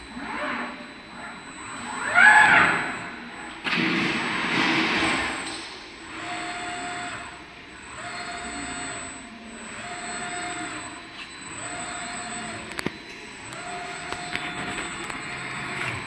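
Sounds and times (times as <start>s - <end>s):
robot arm servo whine: 0.0s - 3.6s, 5.0s - 16.0s.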